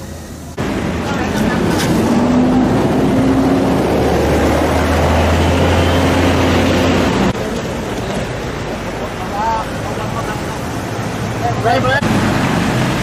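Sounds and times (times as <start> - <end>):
engine humming: 0.0 - 13.0
outdoor roar: 0.0 - 13.0.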